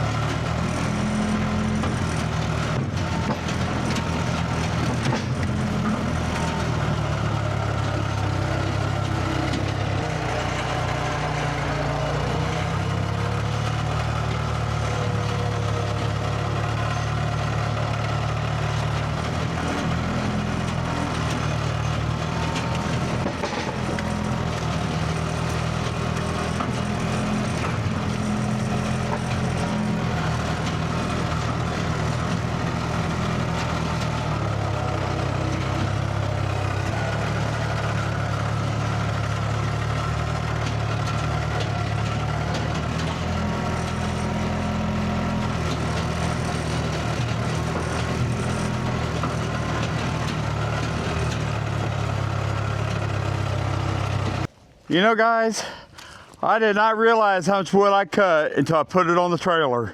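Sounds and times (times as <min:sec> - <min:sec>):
skid steer engine running: 0:00.0 - 0:54.7.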